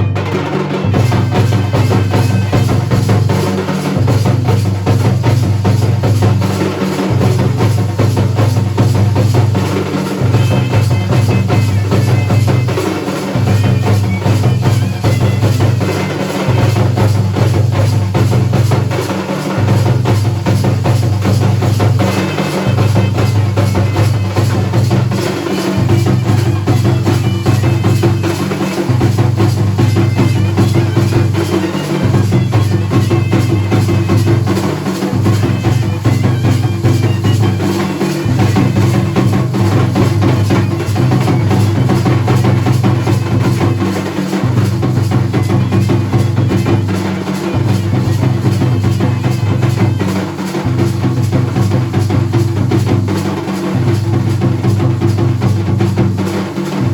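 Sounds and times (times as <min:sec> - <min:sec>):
drums in fast rhythm: 0:00.0 - 0:56.9.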